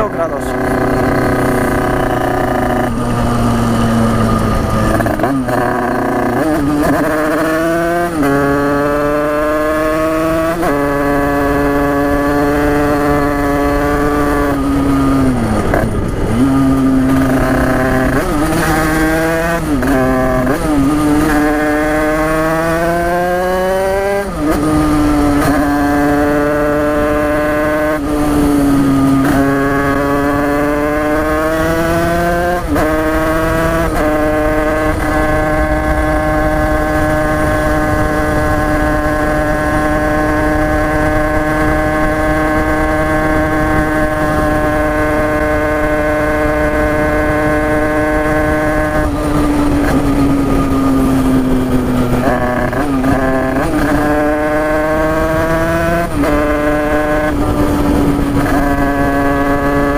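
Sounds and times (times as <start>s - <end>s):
two-stroke dirt bike engine revving: 0.0s - 59.9s.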